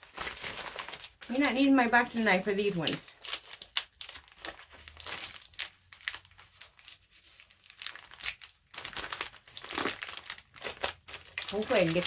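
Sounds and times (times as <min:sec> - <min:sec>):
plastic mailer crinkling and tearing: 0:00.0 - 0:12.0.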